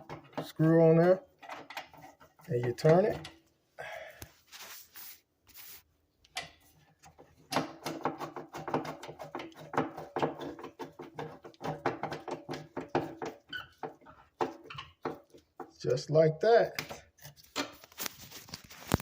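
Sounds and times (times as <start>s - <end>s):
clicks and scraping metal knocks: 0.0s - 3.5s, 6.2s - 15.9s, 16.7s - 19.0s.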